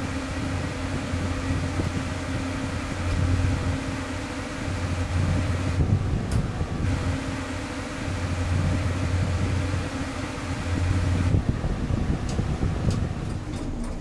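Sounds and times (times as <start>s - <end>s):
lift mechanical hum and rumble: 0.0s - 14.0s.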